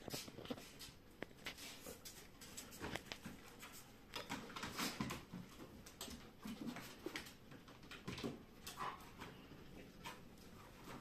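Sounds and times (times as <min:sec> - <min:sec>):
paws scrabbling on floor: 0:00.0 - 0:11.0.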